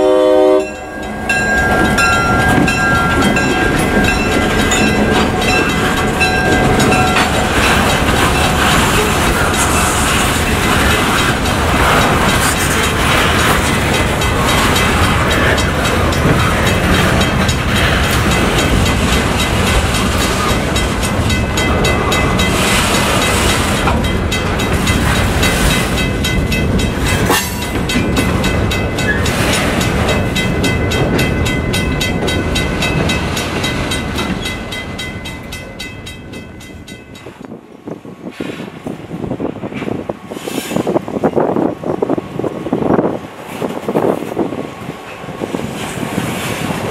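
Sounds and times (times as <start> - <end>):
freight train passing: 0.0 - 46.9.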